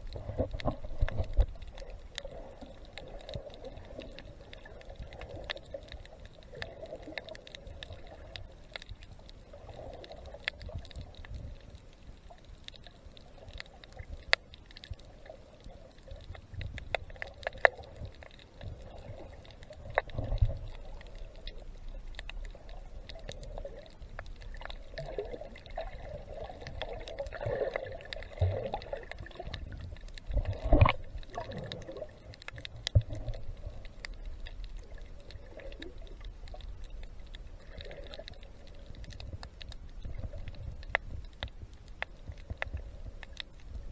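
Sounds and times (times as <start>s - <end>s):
sharp clicks and crackles: 0.0s - 43.9s
underwater sloshing wash: 0.0s - 43.9s.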